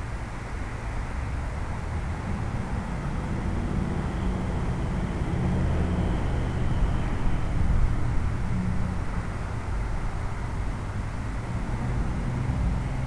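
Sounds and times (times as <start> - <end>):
faint motor whine: 0.0 - 13.0
wind and propeller noise: 0.0 - 13.0.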